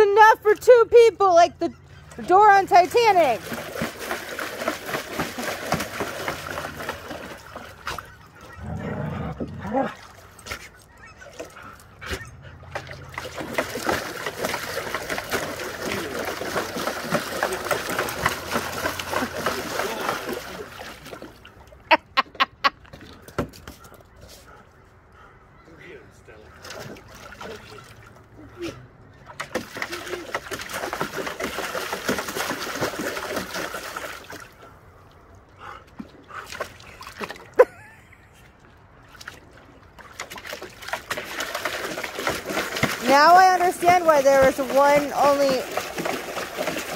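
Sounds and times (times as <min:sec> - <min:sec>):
dog splashing water in a tub: 0:00.0 - 0:21.9, 0:26.3 - 0:46.9.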